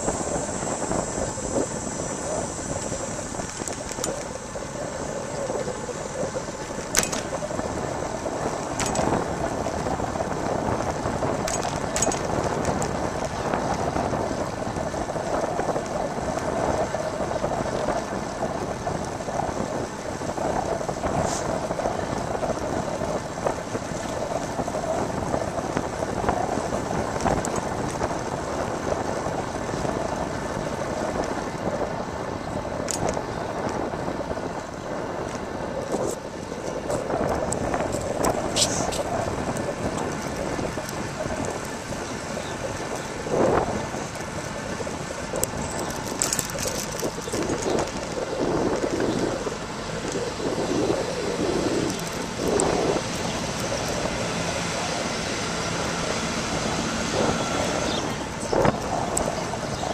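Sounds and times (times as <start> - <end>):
bicycle tyres rolling: 0.0 - 59.9
wind rushing: 0.0 - 59.9.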